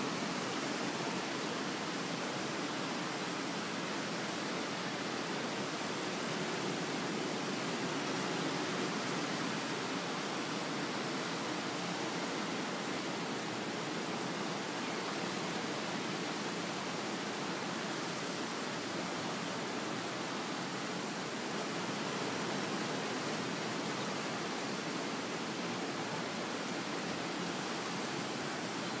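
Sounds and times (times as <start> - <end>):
distant ocean surf: 0.0 - 29.0.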